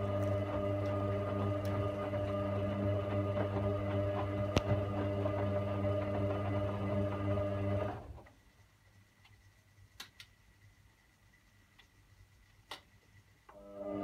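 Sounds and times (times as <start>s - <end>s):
washing machine motor humming: 0.0s - 10.0s, 10.6s - 14.0s.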